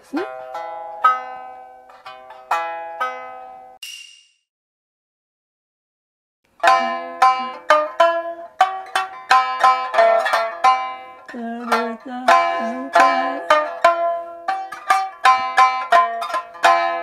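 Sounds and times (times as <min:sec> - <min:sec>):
shamisen notes: 0:00.0 - 0:03.8, 0:06.6 - 0:17.0.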